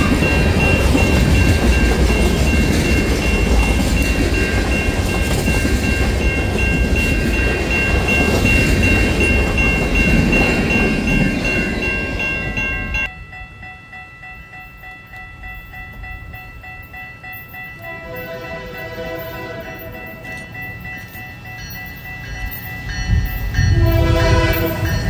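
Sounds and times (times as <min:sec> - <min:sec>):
freight cars rolling on rails: 0:00.0 - 0:25.0.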